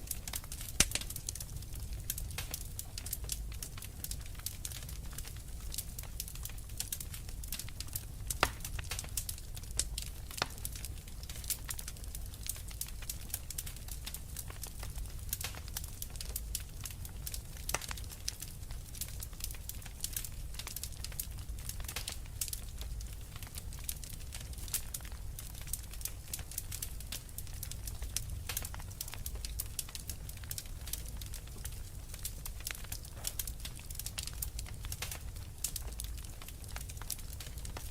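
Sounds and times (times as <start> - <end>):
fireplace fire crackling: 0.0 - 37.9.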